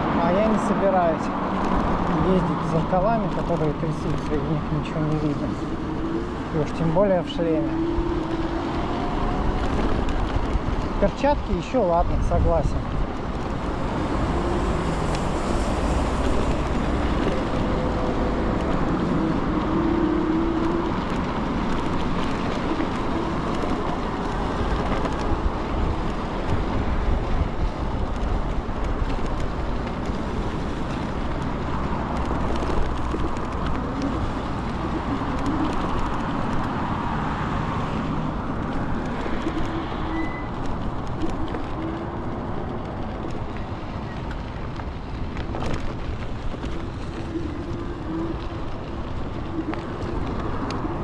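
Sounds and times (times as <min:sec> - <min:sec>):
road traffic: 0:00.0 - 0:51.0
scooter tyres and frame rumble: 0:00.0 - 0:51.0.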